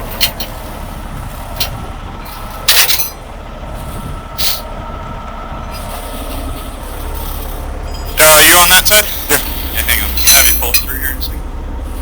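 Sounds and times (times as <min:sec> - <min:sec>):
tow truck diesel engine idling: 0:00.0 - 0:12.0.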